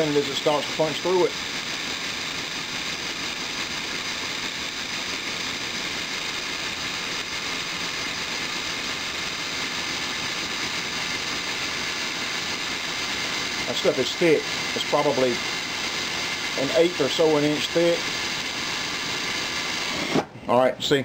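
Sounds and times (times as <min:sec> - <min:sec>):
electric drill grinding through ceramic: 0:00.0 - 0:20.3.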